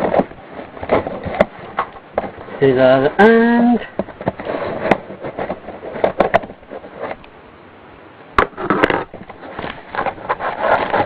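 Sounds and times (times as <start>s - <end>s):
cardboard crackling and rustling: 0.0s - 7.3s, 8.4s - 11.0s.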